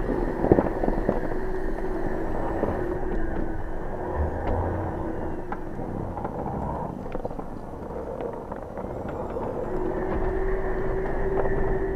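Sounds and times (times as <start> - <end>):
vehicle tyres rumbling on snow: 0.0 - 11.9.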